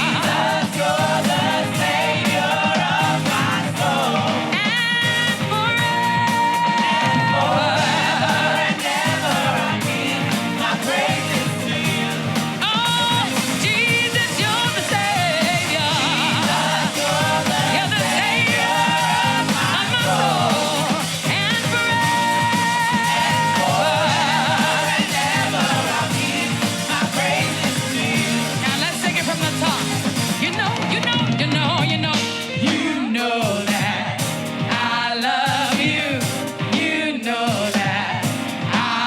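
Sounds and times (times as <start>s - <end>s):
full band backing: 0.0s - 39.0s
voices singing with vibrato: 0.0s - 39.0s.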